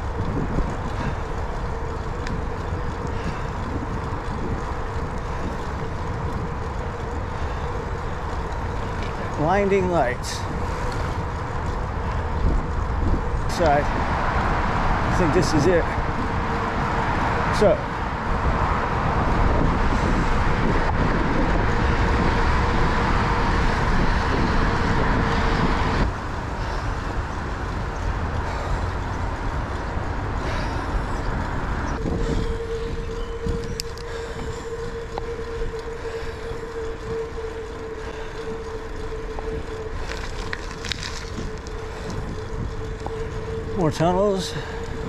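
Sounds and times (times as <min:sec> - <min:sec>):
bicycle tyres rolling on asphalt: 0:00.0 - 0:45.0
steady hum: 0:00.0 - 0:45.0
wind rumbling on microphone: 0:00.0 - 0:45.0.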